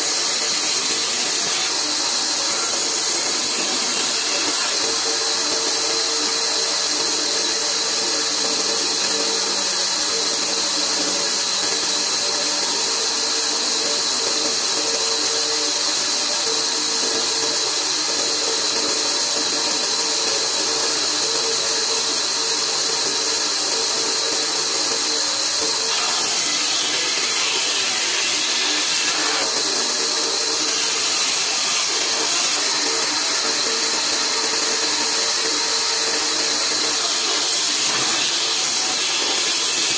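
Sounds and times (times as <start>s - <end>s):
bandsaw cutting wood: 0.0s - 9.7s, 17.3s - 39.9s.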